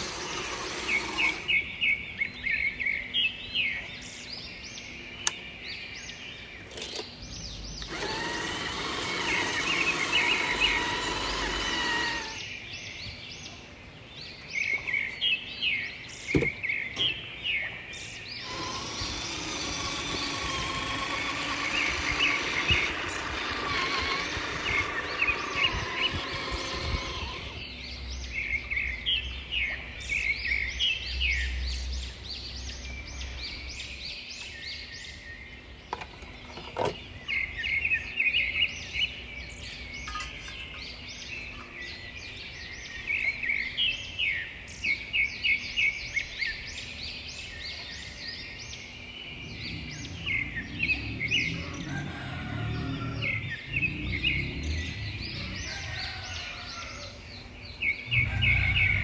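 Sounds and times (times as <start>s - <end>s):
motor-like hum with pitched tones: 0.0s - 13.0s, 16.3s - 34.0s, 37.3s - 59.0s
small birds chirping: 0.0s - 59.0s.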